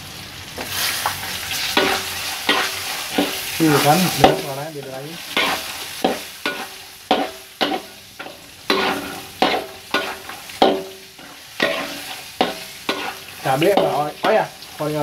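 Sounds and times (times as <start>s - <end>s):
frying sizzle: 0.0s - 15.0s
metal spatula scraping wok: 0.6s - 15.0s.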